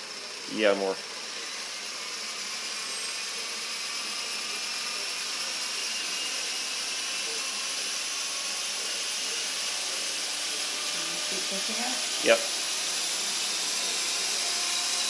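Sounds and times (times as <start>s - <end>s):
model helicopter motor whine: 0.0s - 15.0s.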